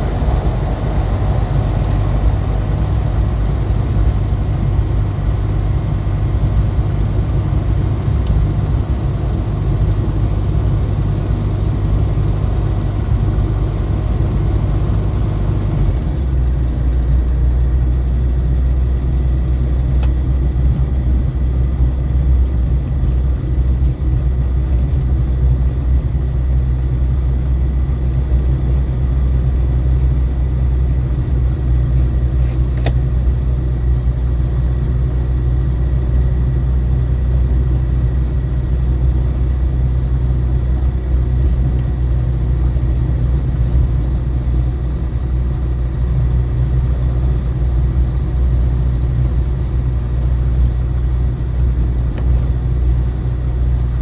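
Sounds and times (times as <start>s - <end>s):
aircraft engine droning: 0.0s - 54.0s.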